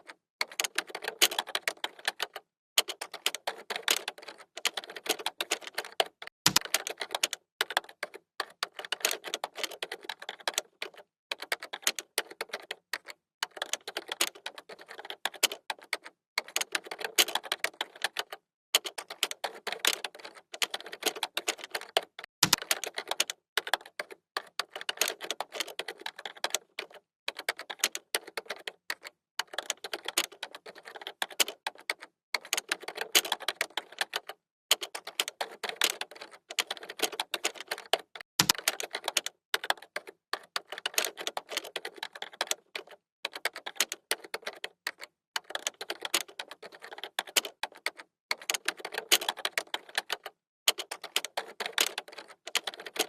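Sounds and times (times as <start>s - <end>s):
keyboard typing: 0.0s - 53.0s.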